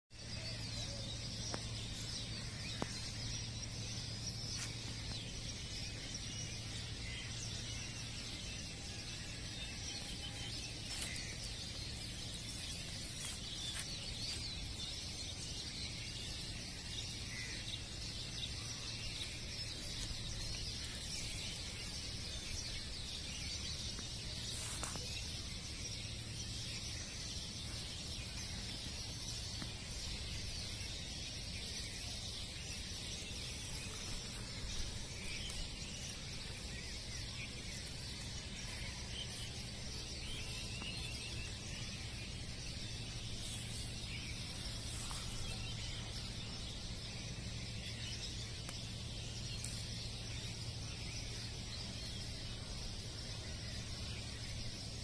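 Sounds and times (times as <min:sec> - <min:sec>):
small birds chirping: 0:00.1 - 0:55.0
steady low hum: 0:00.2 - 0:55.0.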